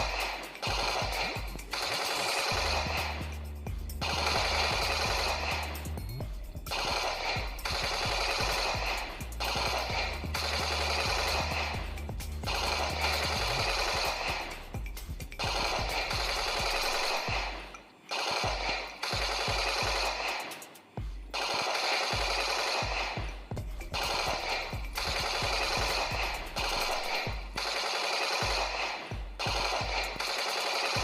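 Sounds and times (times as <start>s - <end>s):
toy machine gun bursts: 0.0s - 3.4s, 4.0s - 6.0s, 6.7s - 31.0s.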